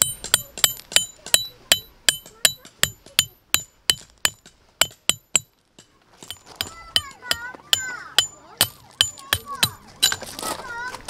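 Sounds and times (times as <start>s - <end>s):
mallet hammering metal peg: 0.0s - 5.5s, 6.2s - 10.3s.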